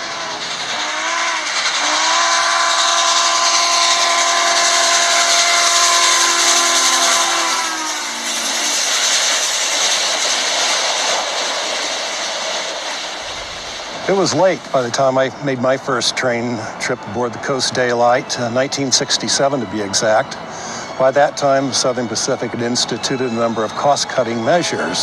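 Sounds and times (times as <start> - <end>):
rushing noise of passing train: 0.0 - 25.0.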